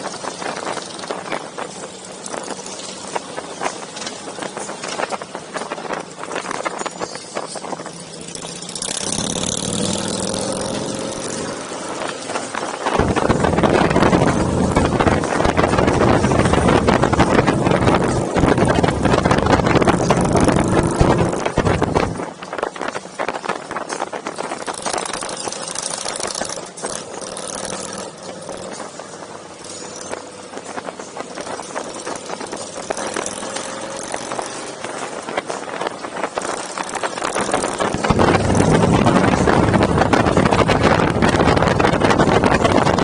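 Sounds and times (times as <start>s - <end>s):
motorcycle engines running: 0.0s - 43.0s.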